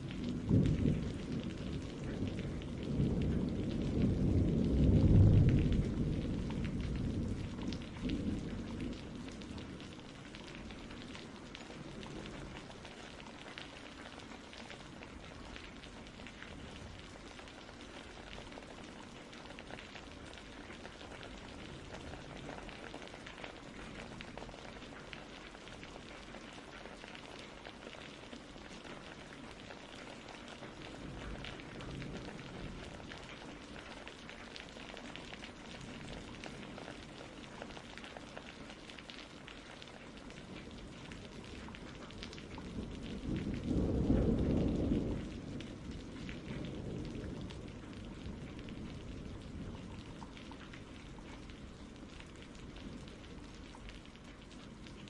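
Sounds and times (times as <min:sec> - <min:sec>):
low rumble of thunder: 0:00.0 - 0:55.0
steady rain falling: 0:00.0 - 0:55.0.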